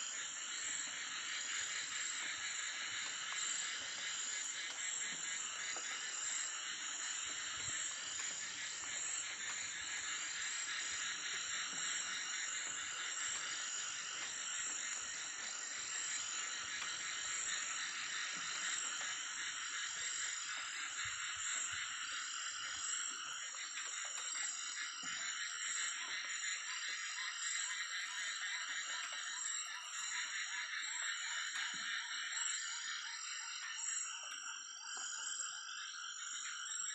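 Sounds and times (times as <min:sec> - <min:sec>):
frogs calling: 0:00.0 - 0:36.9
insects trilling: 0:00.0 - 0:36.9.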